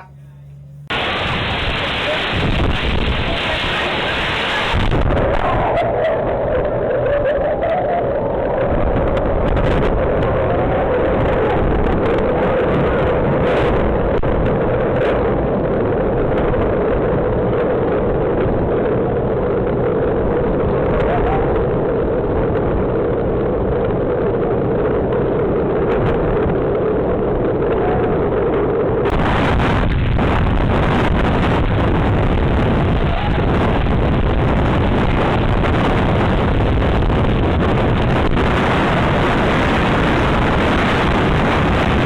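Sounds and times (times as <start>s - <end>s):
storm wind buffeting microphone: 0.9s - 42.0s.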